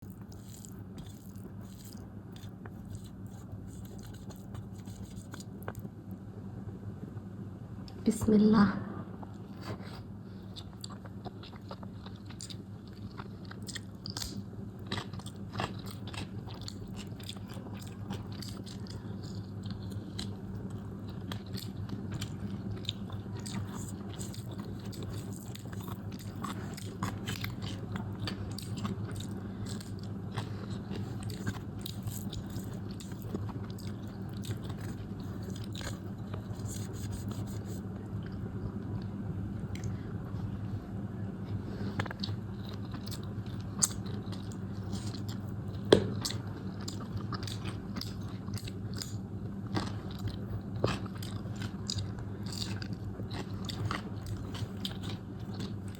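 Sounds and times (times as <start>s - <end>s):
person chewing food: 0.0s - 5.9s, 9.2s - 40.2s, 41.4s - 55.9s
steady low hum: 0.0s - 55.9s.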